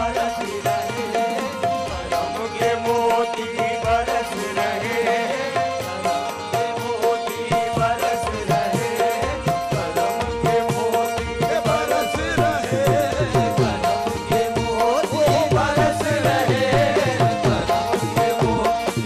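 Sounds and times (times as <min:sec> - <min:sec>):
hand drums playing: 0:00.0 - 0:19.0
harmonium melody: 0:00.0 - 0:19.0.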